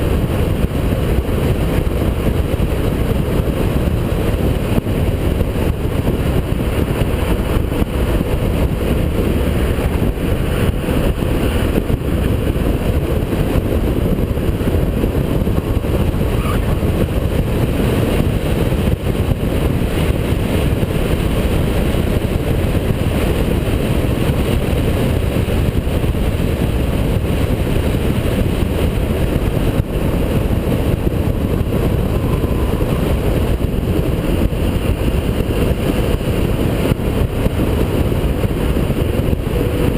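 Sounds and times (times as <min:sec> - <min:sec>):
race car engine rumbling: 0:00.0 - 0:39.9.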